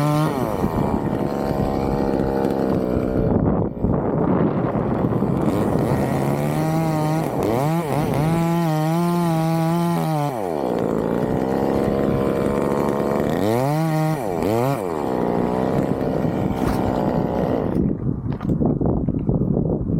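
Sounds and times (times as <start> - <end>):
chainsaw engine revving: 0.0 - 17.9.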